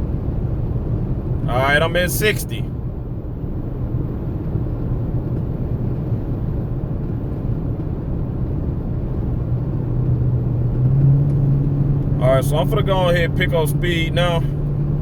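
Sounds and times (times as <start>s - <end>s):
car road noise inside cabin: 0.0s - 15.0s.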